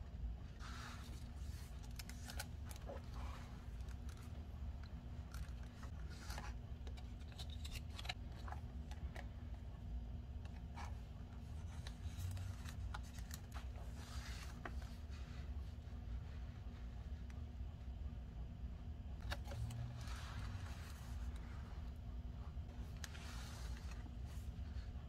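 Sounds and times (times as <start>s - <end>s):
low steady hum: 0.0s - 25.0s
paper pages rustling: 0.5s - 9.7s, 10.4s - 17.4s, 19.2s - 25.0s.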